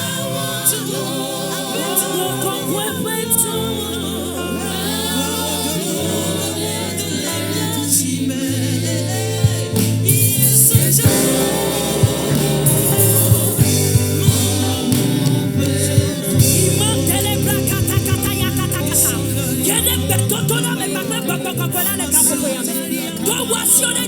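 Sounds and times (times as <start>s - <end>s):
gospel singing over a band: 0.0s - 24.0s.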